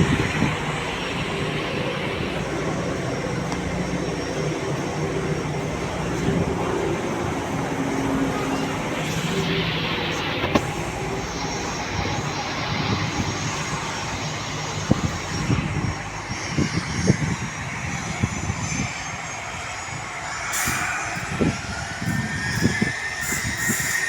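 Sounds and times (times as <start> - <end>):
aircraft engines running: 0.0 - 24.0
rising engine whine: 0.0 - 24.0.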